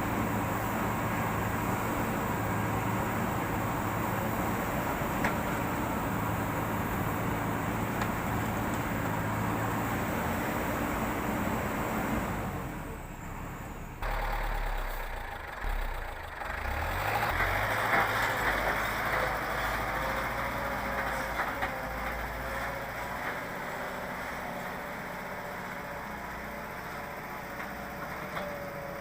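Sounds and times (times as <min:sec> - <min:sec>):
heavy machine diesel engine running: 0:00.0 - 0:29.0.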